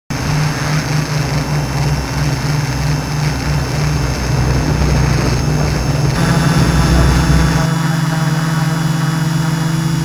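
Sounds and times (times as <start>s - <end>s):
drone propellers whirring: 0.1s - 10.0s.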